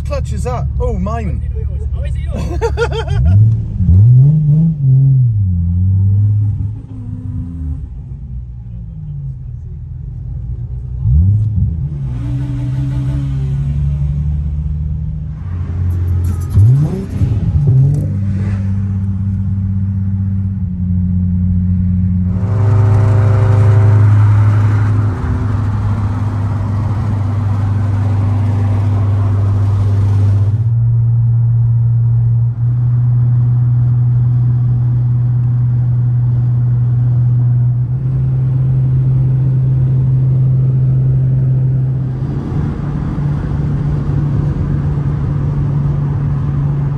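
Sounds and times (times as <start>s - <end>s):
car engine running: 0.0s - 4.7s, 5.3s - 46.9s.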